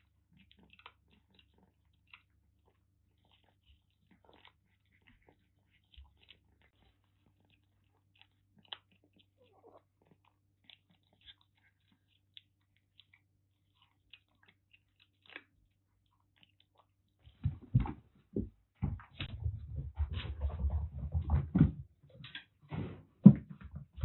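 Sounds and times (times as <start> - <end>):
kittens chewing dry food: 0.0 - 21.4.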